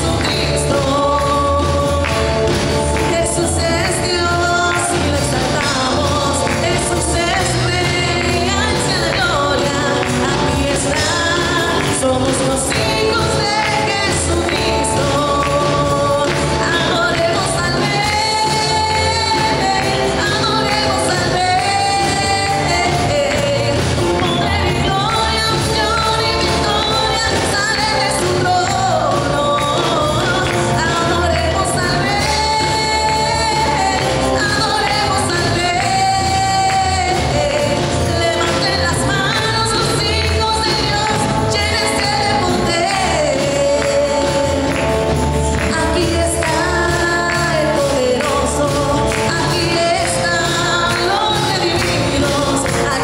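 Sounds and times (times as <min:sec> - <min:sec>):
band accompaniment: 0:00.0 - 0:53.0
sustained bass line: 0:00.0 - 0:53.0.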